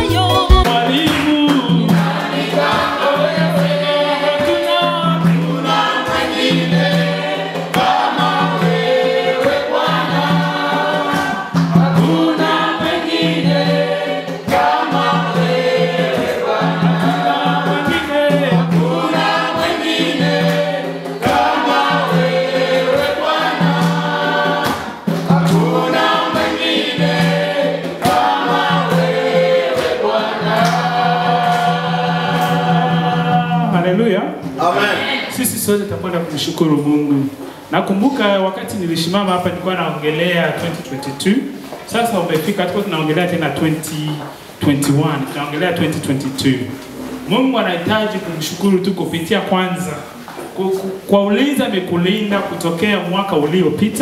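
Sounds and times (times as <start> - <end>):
choir singing gospel: 0.0 - 54.0.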